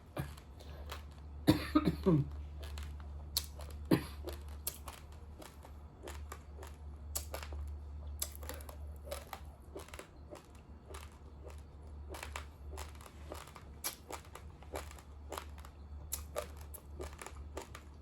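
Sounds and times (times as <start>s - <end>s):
chewing crunchy rice: 0.0s - 18.0s
steady low hum: 0.0s - 18.0s.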